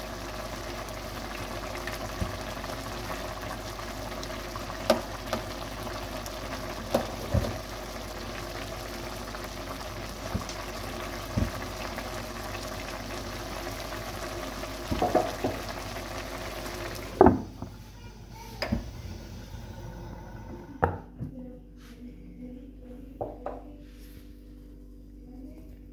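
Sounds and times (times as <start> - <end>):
food sizzling in a pan: 0.0 - 20.8.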